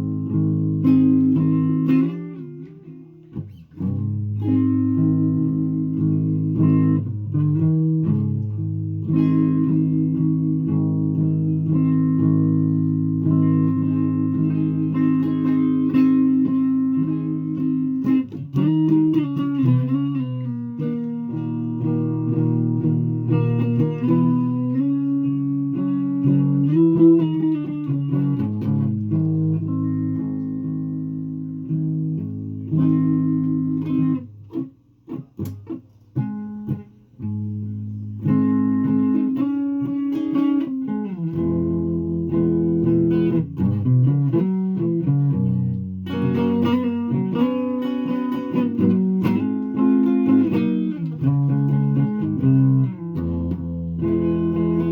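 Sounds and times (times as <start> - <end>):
guitar chords strummed: 0.0 - 54.9.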